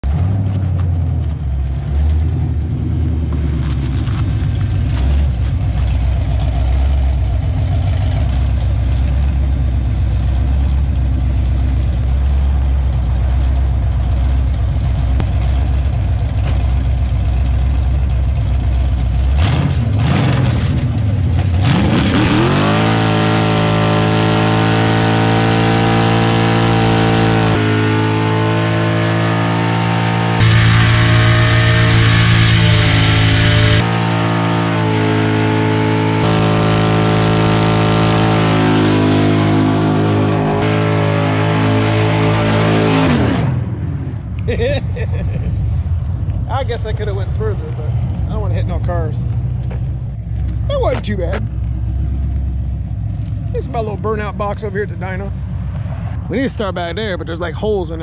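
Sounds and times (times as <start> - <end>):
engine rumbling and revving: 0.0 - 58.0.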